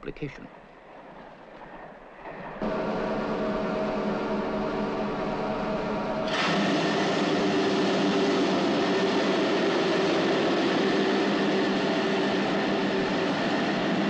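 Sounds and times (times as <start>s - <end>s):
hum of steady tones: 0.0s - 14.0s.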